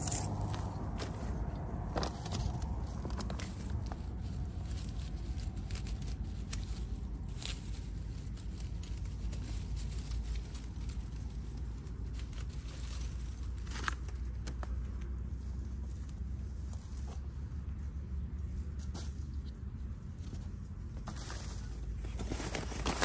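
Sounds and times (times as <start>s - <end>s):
dry grass crackling: 0.0s - 23.0s
steady low rumble: 0.0s - 23.0s.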